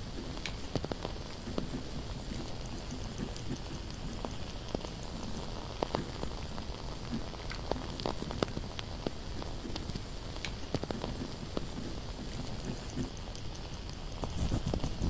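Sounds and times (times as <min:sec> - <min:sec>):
candle hissing and crackling: 0:00.0 - 0:15.0.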